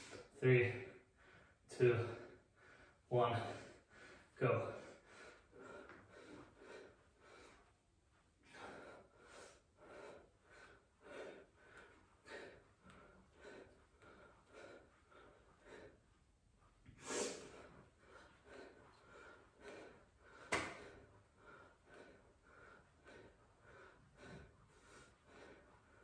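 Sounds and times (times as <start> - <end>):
man breathing hard: 0.0 - 26.0.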